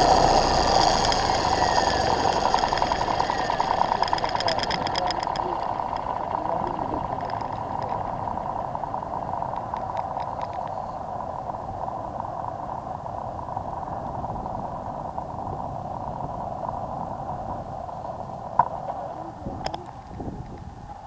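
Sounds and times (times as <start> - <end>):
rc helicopter motor whine: 0.0 - 21.0
wind rumbling on microphone: 0.0 - 21.0.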